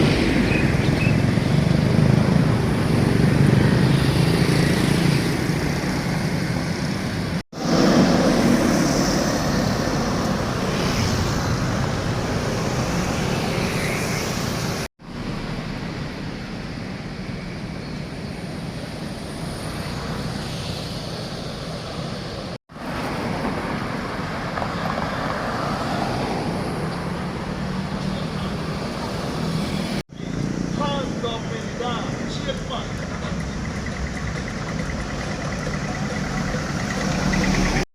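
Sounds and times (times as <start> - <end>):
road traffic noise: 0.0 - 37.9.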